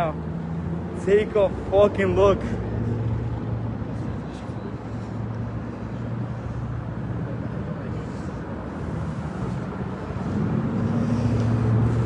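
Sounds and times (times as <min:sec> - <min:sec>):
outdoor background noise: 0:00.0 - 0:12.0
vehicle engine hum: 0:00.0 - 0:12.0.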